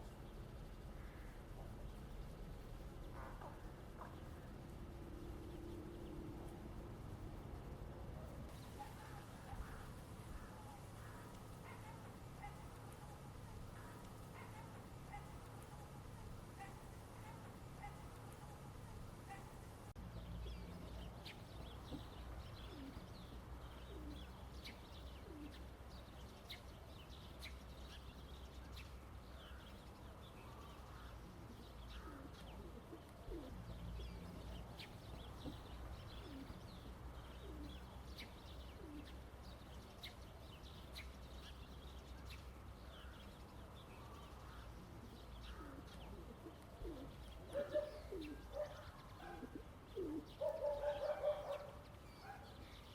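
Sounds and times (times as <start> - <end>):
bird calls: 8.5 - 52.9.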